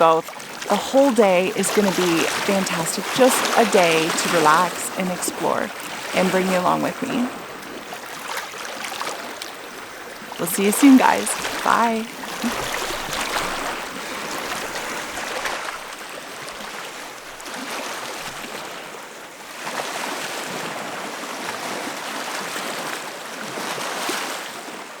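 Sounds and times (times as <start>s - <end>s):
rushing stream water: 0.0s - 25.0s.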